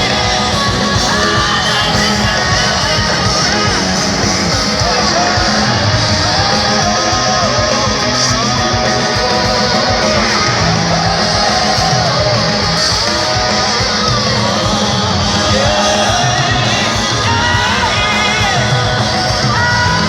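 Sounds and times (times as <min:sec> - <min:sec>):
distorted electric guitar: 0:00.0 - 0:20.0
live rock band playing: 0:00.0 - 0:20.0.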